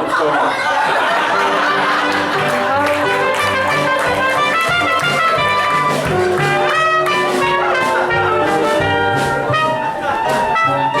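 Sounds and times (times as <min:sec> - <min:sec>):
brass-led orchestral music: 0:01.0 - 0:11.0.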